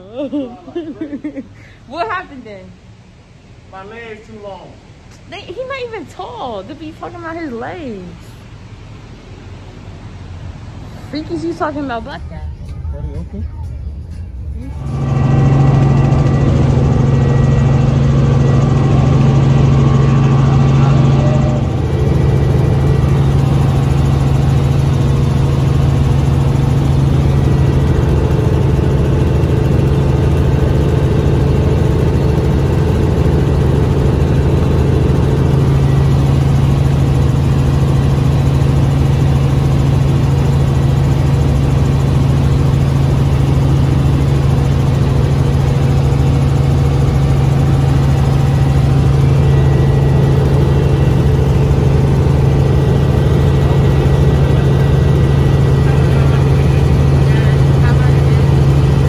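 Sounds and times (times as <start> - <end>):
helicopter engine and rotor drone: 8.5 - 59.0.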